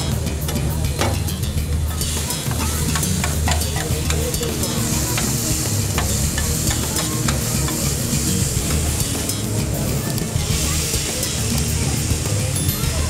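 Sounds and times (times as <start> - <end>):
metal spatulas scraping a griddle: 0.0 - 12.0
meat and vegetables sizzling on griddle: 0.0 - 13.0.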